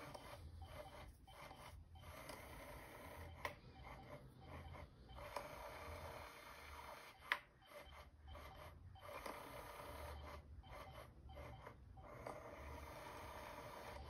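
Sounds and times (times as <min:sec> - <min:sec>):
small motor whirring: 0:00.0 - 0:14.0.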